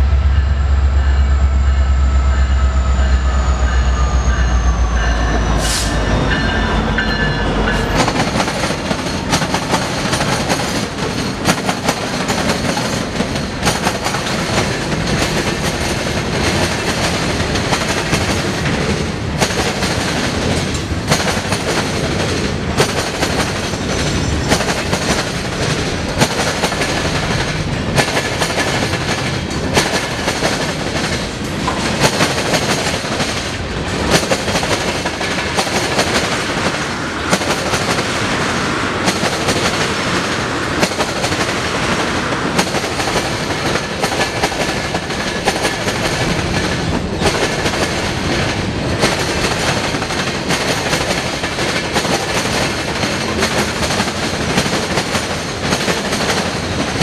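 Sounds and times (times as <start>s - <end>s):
steel wheels rumbling: 0.0s - 57.0s
wheels clacking over rail joints: 4.4s - 57.0s.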